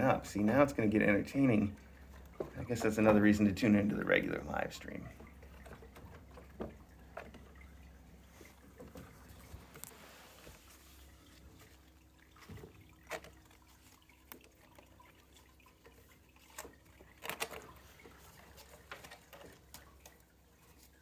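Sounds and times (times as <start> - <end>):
kittens' paws tapping and scuffling: 1.8 - 21.0.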